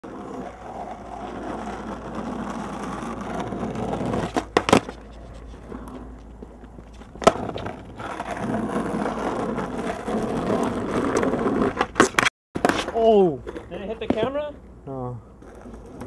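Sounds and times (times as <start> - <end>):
skateboard wheels rolling on asphalt: 0.0 - 16.0
skateboard clacking on curb: 0.1 - 14.6, 15.4 - 16.0.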